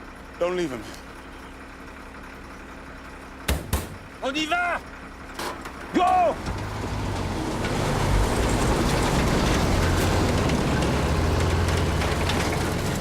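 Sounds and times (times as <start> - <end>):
road noise: 0.0 - 13.0
truck engine humming: 0.0 - 13.0.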